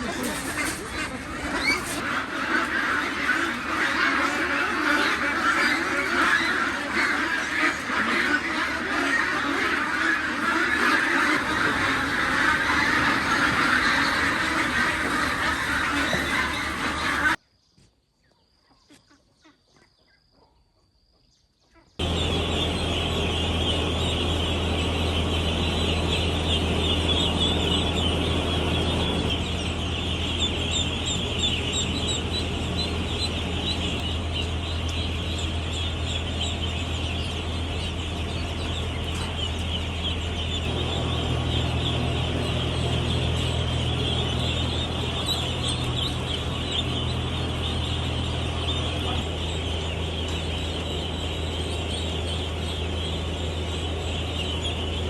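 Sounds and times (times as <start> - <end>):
flock of ducks calling: 0.0 - 17.4, 22.0 - 55.0
steady low hum: 0.0 - 17.4, 22.0 - 55.0.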